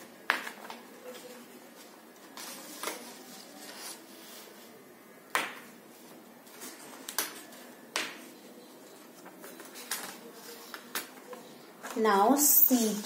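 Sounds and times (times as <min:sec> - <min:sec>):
paper rustling: 0:00.3 - 0:04.8, 0:05.9 - 0:12.1.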